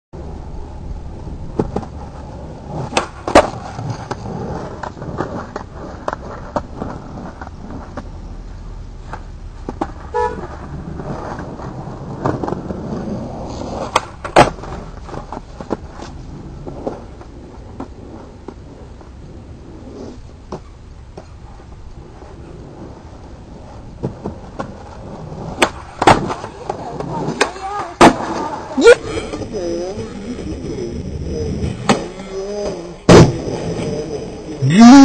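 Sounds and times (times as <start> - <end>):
skateboard wheels rolling on pavement: 0.2 - 34.8
skateboard clacks: 1.4 - 19.2, 20.5 - 30.7, 31.5 - 34.6.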